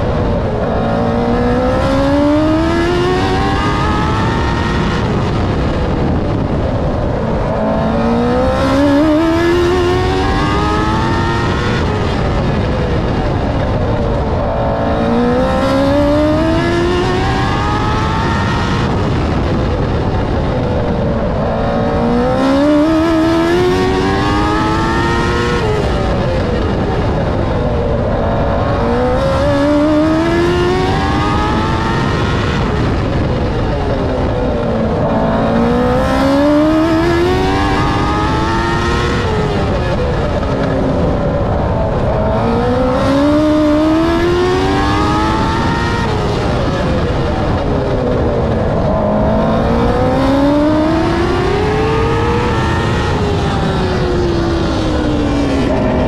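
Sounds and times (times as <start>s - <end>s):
race car engine at speed: 0.0s - 56.0s
wind and tire noise: 0.0s - 56.0s.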